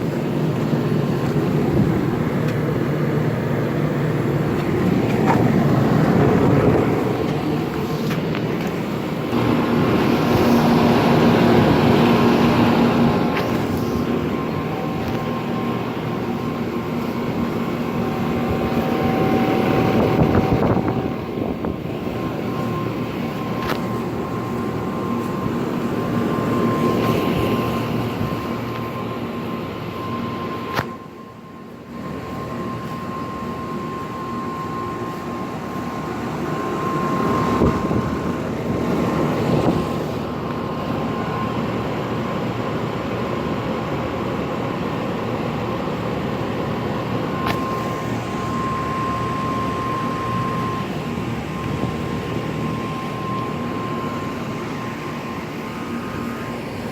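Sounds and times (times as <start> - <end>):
air conditioner fan and compressor hum: 0.0 - 56.9
high whine: 0.0 - 56.9.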